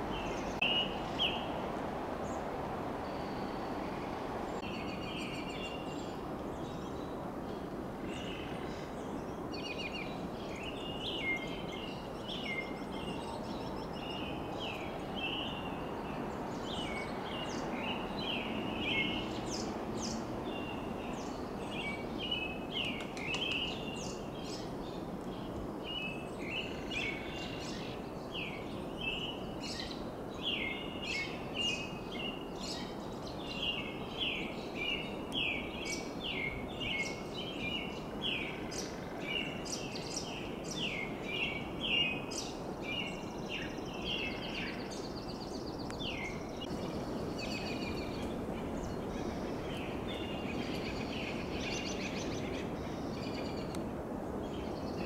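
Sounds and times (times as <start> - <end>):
robin singing: 0.0 - 1.6, 3.0 - 55.0
low background noise: 0.0 - 55.0.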